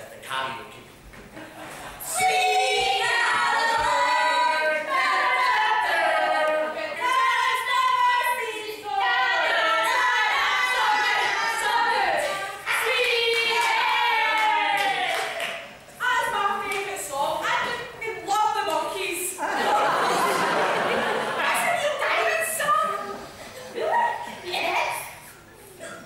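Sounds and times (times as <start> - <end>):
women singing together: 1.9 - 24.4.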